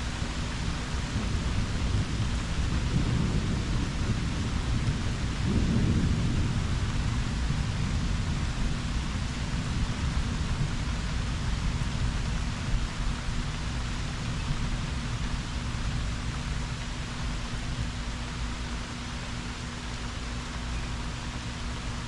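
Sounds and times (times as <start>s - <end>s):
thunder rumbling: 0.0s - 18.2s
rain falling: 0.0s - 22.0s.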